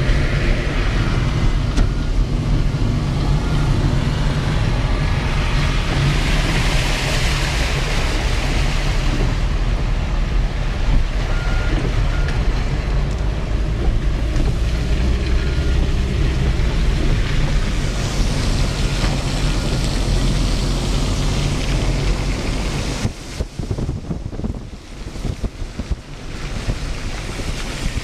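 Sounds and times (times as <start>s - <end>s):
car engine and road rumble: 0.0s - 28.0s
tyres hissing on wet road: 0.0s - 28.0s.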